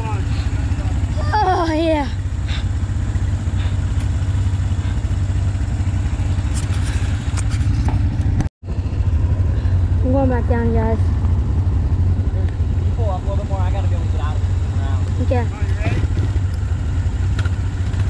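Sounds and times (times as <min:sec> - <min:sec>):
atv engines idling: 0:00.0 - 0:18.0.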